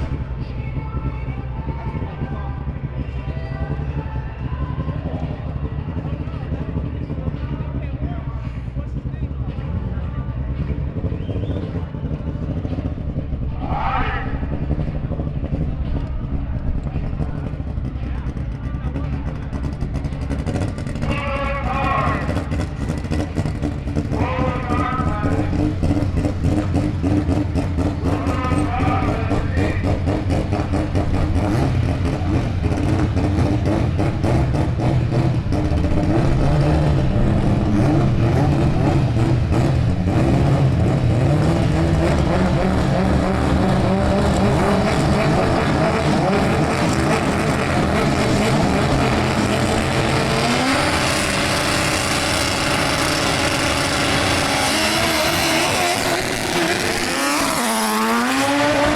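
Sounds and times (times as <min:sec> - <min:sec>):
car engine idling and revving: 0:00.0 - 0:58.9.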